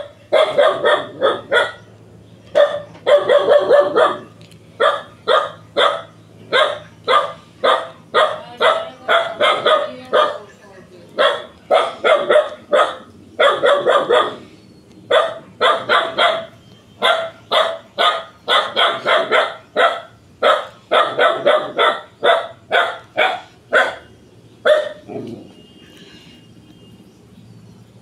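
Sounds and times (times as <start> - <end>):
dog barking: 0.0 - 1.9, 2.5 - 10.5, 11.2 - 14.4, 15.1 - 25.4.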